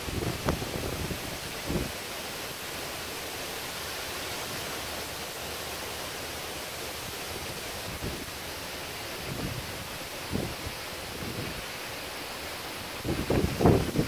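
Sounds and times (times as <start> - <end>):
heavy rain pouring over trees: 0.0 - 14.0.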